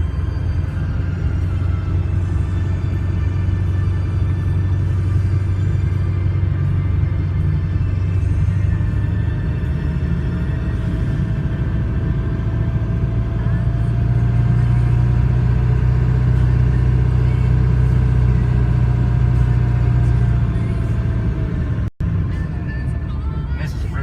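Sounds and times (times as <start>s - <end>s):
vehicle engine droning while driving: 0.0s - 24.0s.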